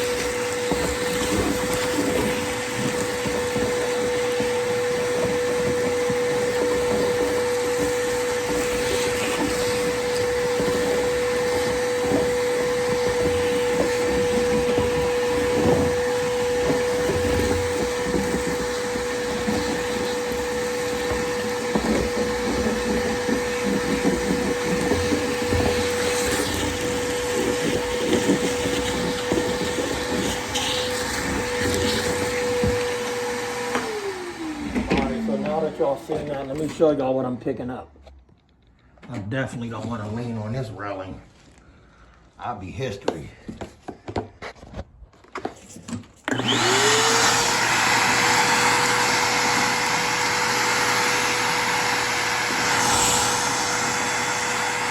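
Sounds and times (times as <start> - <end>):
vacuum motor winding down: 0.0 - 37.1, 46.3 - 54.9
shop vacuum motor whine: 0.0 - 37.7, 46.2 - 54.9.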